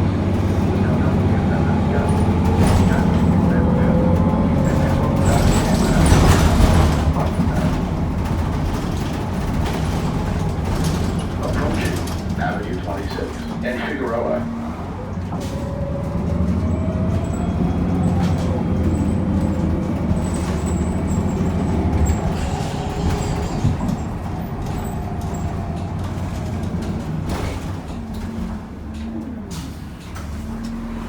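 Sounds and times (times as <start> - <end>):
bus engine pulling hard: 0.0 - 31.0.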